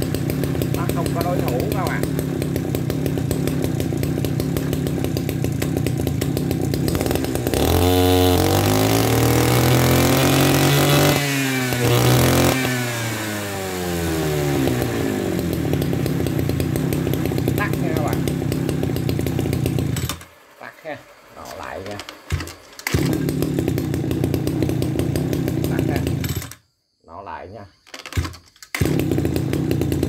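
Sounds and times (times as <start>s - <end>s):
brush cutter engine revving: 0.0s - 26.6s, 28.0s - 30.0s.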